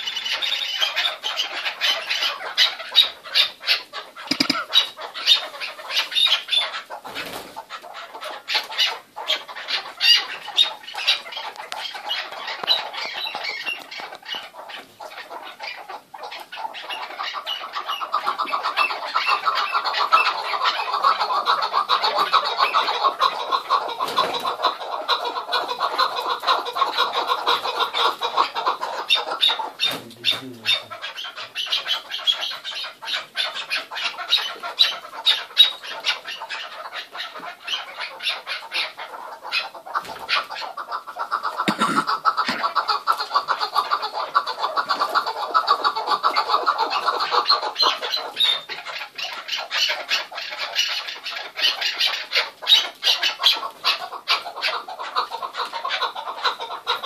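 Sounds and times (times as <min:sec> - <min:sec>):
partridges calling: 0:00.0 - 0:07.4, 0:08.3 - 0:57.0.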